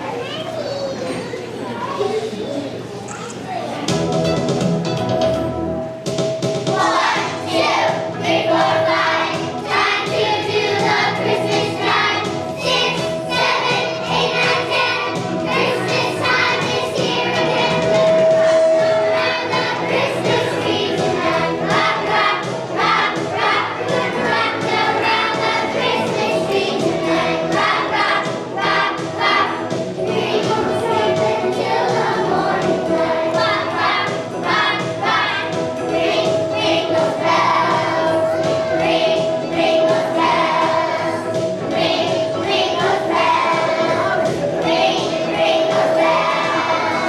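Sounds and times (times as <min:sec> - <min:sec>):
musical accompaniment: 0:03.8 - 0:47.0
children's choir singing: 0:06.6 - 0:47.0.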